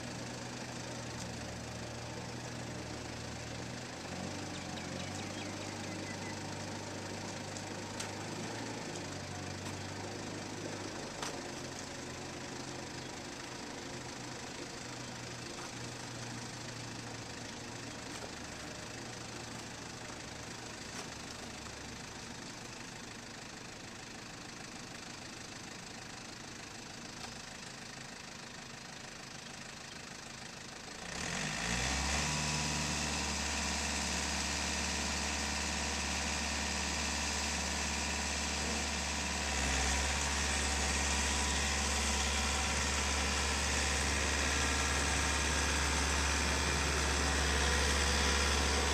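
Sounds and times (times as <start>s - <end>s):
tractor diesel engine revving: 0.0s - 22.0s, 31.0s - 48.9s.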